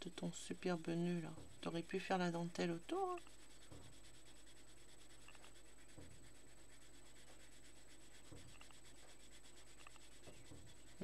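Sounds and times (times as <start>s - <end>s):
low steady hum: 0.0s - 11.0s
pencil scratching on paper: 0.0s - 11.0s.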